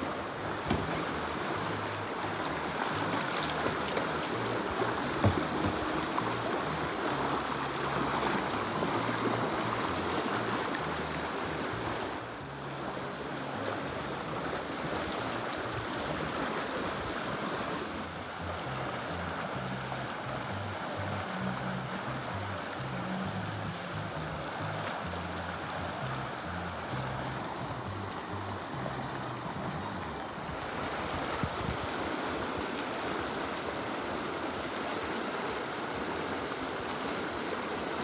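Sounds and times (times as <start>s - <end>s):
river rushing over rocks: 0.0s - 38.0s.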